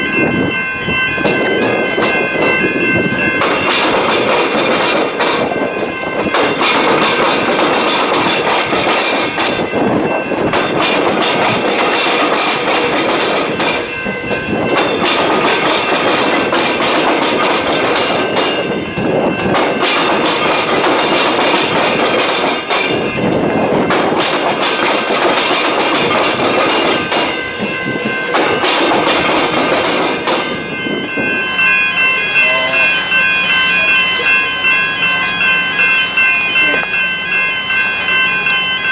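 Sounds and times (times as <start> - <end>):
train wheels clattering over rails: 0.0 - 34.5.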